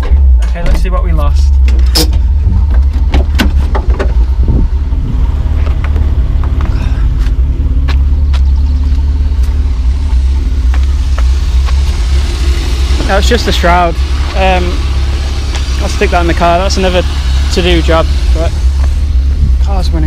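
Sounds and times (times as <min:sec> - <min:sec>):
car engine idling: 0:00.0 - 0:20.0
engine clicks and knocks: 0:00.0 - 0:20.0.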